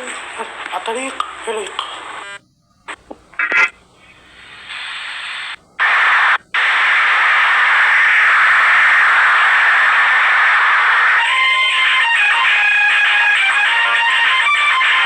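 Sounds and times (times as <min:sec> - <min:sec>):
hissing static: 0:00.0 - 0:15.0.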